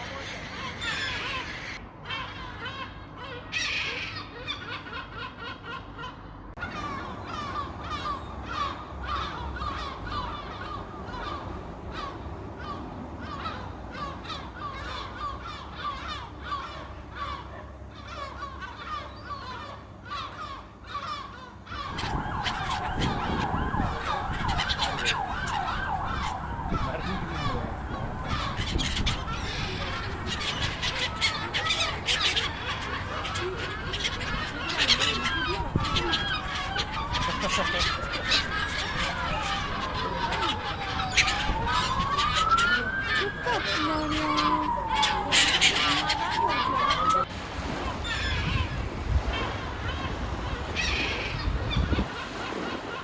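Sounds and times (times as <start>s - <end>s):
seagulls calling: 0.0s - 53.0s.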